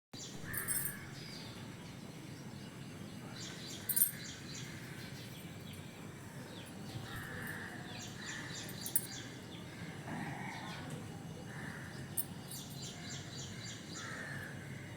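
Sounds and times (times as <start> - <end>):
small birds chirping: 0.2 - 14.5
low background noise: 0.2 - 14.9.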